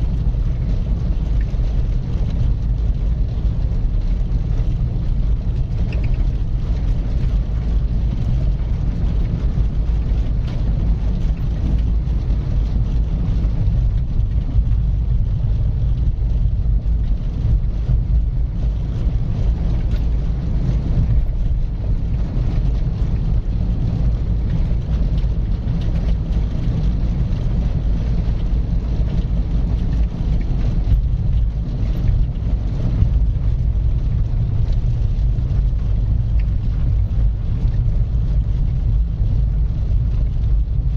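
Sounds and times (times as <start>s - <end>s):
car engine rumble: 0.0s - 40.9s
tyres on road: 0.0s - 40.9s.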